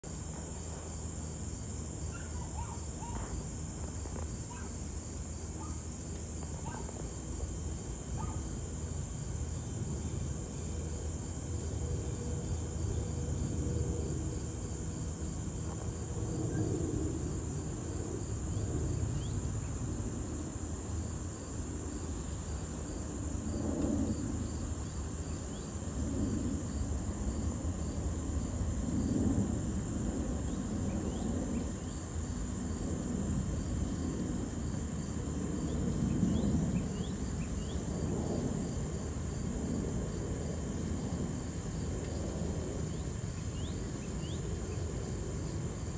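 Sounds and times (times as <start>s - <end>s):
distant jet rumble: 0.2s - 45.9s.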